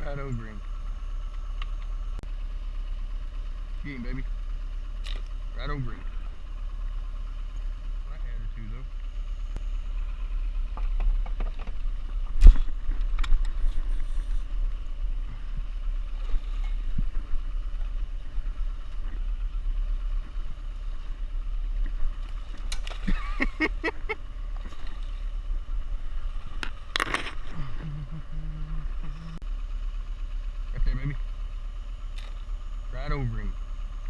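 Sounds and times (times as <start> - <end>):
boat motor humming: 0.0 - 34.0.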